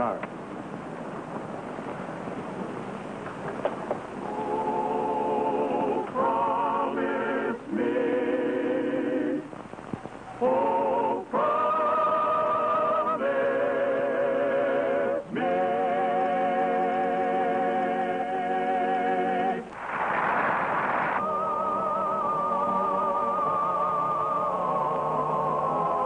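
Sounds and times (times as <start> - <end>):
choir singing held chords: 4.0 - 9.6, 10.3 - 26.0.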